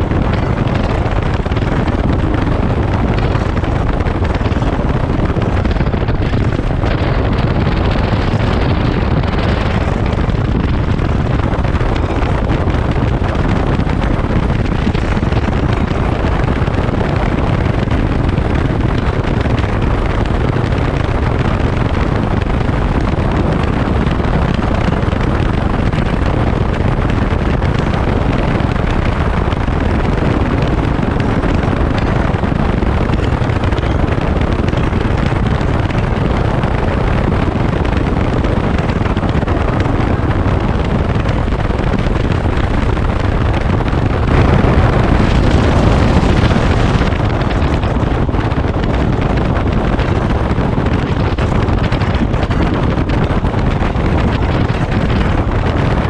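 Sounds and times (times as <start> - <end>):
motorcycle engine and road roar: 0.0 - 56.0
wind rushing over microphone: 0.0 - 56.0.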